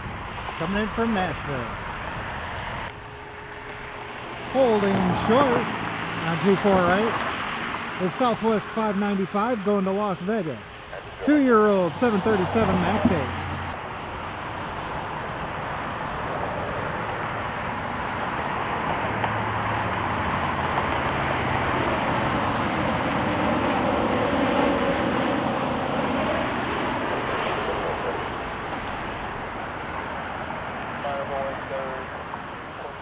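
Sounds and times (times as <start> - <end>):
jet airliner passing roar: 0.0 - 33.0.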